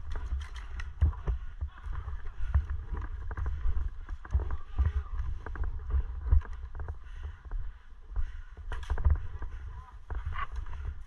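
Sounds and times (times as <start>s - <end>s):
gear clicks and rustles: 0.0s - 11.0s.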